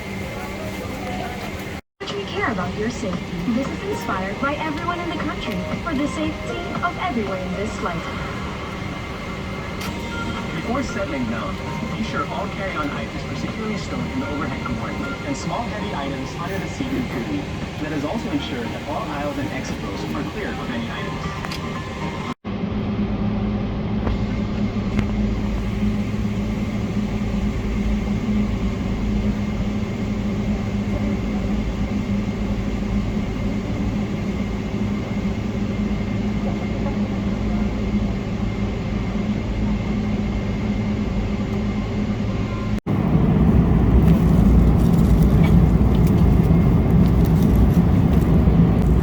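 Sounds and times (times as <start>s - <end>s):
airplane cabin engine hum: 0.0s - 49.0s.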